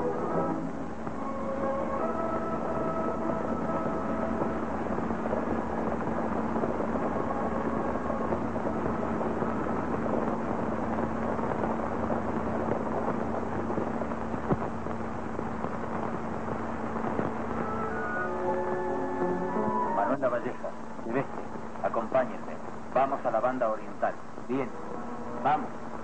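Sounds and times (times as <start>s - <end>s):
film soundtrack hiss and hum: 0.0s - 26.0s.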